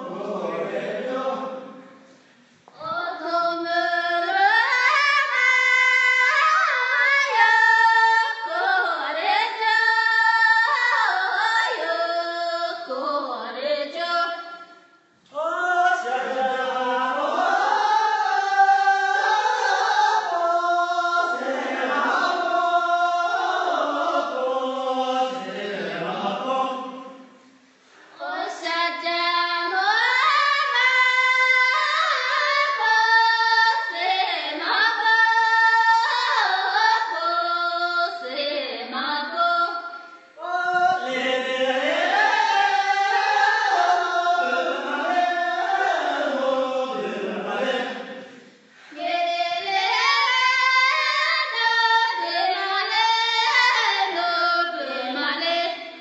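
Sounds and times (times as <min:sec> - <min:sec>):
voices singing: 0:00.0 - 0:14.4, 0:15.2 - 0:27.6, 0:28.2 - 0:56.0.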